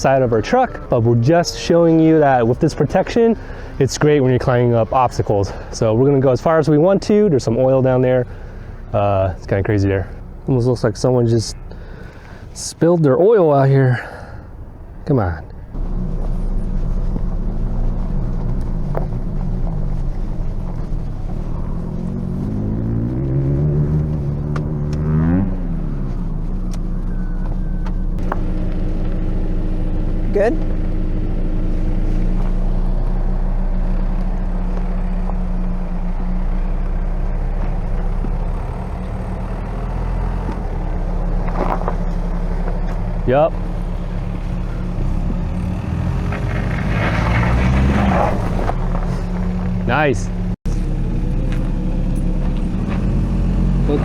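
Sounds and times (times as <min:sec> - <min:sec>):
truck engine under load: 0:00.0 - 0:54.0.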